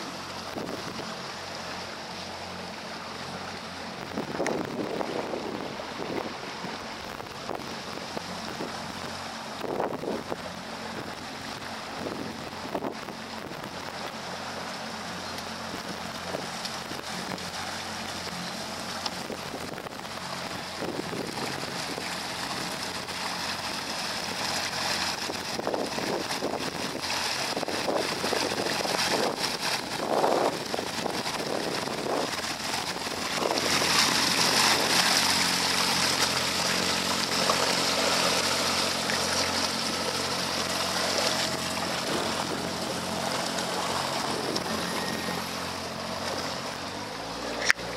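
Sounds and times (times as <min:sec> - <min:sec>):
wind on microphone: 0:00.0 - 0:01.2, 0:03.9 - 0:14.2, 0:19.1 - 0:47.9
outboard motor running: 0:00.0 - 0:47.9
water rushing past hull: 0:00.0 - 0:47.9.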